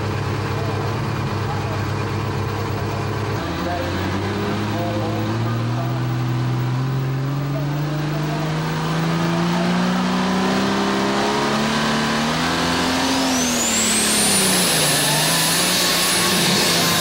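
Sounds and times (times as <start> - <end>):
diesel tractor engine under load: 0.0 - 17.0
high turbocharger whine: 0.0 - 17.0.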